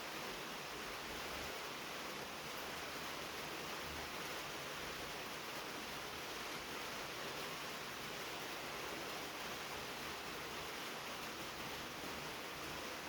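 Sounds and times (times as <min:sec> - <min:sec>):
rain on a tin roof: 0:00.0 - 0:13.0.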